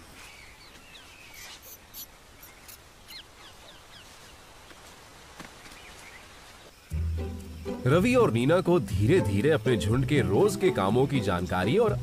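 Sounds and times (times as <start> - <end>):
small birds chirping: 0.0 - 9.9
faint steady hiss: 0.0 - 12.0.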